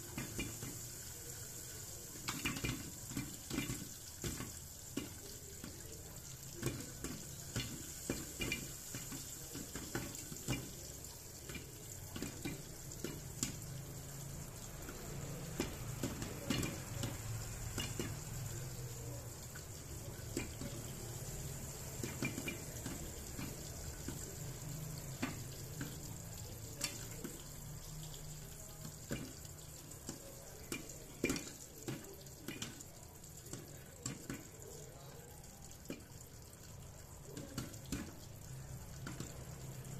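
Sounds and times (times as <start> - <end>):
popcorn popping: 0.0 - 39.9.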